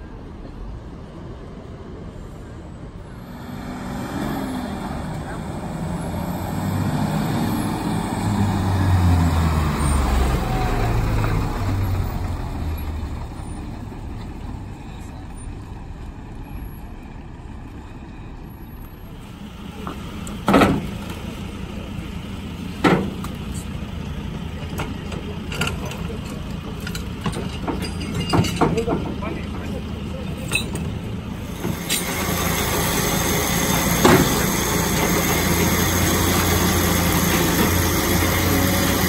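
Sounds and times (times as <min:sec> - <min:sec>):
fire engine diesel rumbling: 0:00.0 - 0:39.0.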